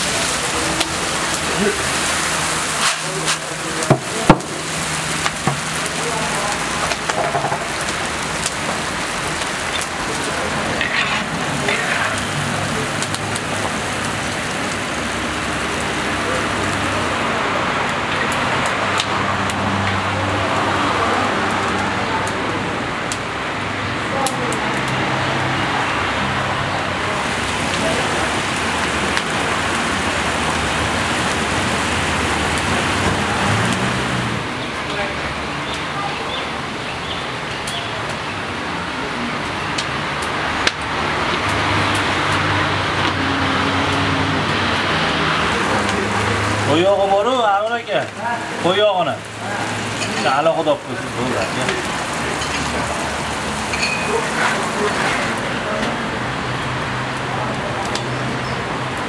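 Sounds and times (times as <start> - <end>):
oil crackling and popping: 0.0 - 59.0
oil sizzling in a cauldron: 0.0 - 59.0.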